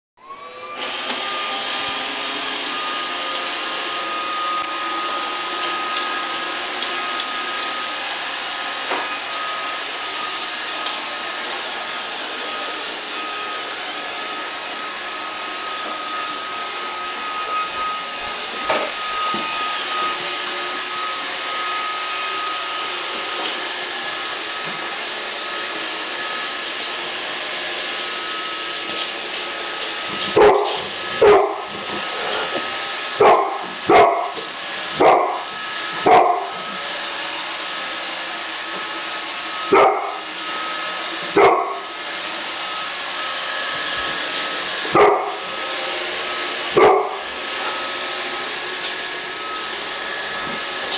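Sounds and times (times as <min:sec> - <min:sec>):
robot vacuum whirring: 0:00.2 - 0:50.9.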